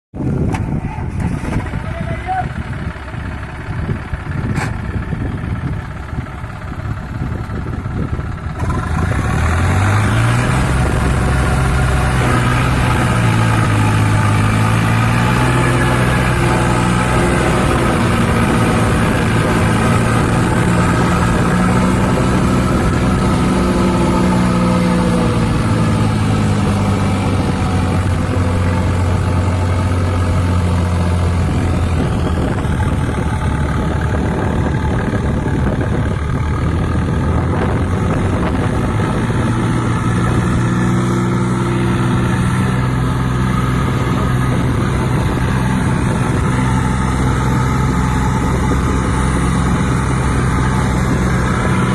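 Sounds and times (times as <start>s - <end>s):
tractor diesel engine under load: 0.1s - 51.9s.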